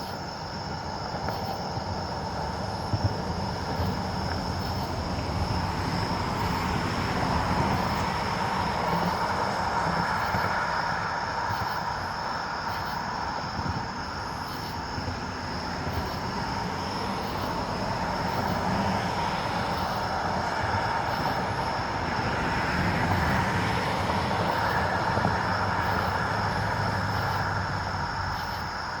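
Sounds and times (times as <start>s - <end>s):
distant mechanical rumble and hiss: 0.0s - 29.0s.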